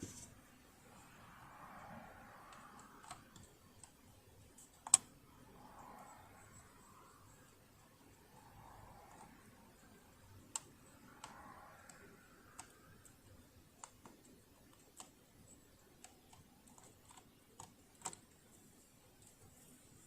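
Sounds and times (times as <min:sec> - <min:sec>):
small parts clicking and tapping: 0:01.0 - 0:20.0.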